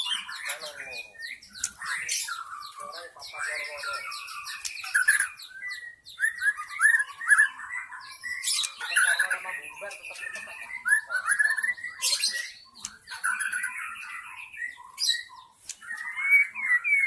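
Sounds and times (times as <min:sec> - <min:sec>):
bird singing whistles and chatter: 0:00.0 - 0:17.0.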